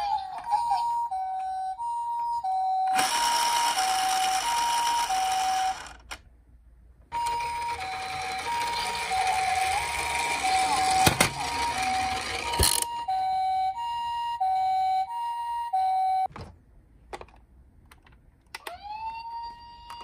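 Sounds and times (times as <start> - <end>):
toy two-tone siren: 0.0 - 6.0, 7.1 - 16.3, 18.6 - 20.0.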